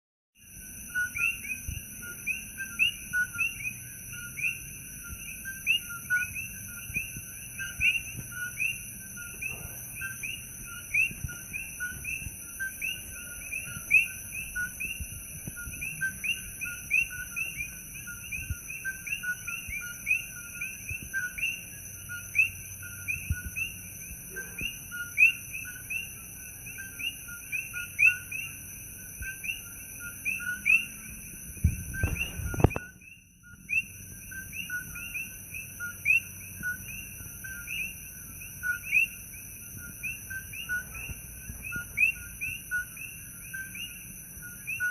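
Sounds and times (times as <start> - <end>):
frogs calling in chorus: 0.4 - 44.9.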